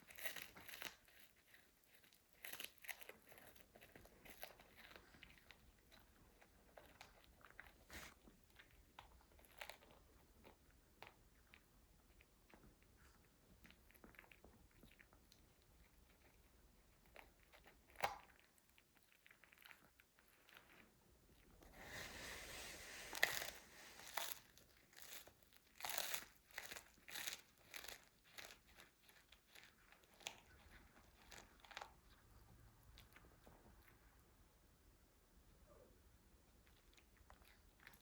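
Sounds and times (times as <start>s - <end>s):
dog chewing and crunching: 0.0s - 21.8s, 23.1s - 34.2s, 36.5s - 38.0s.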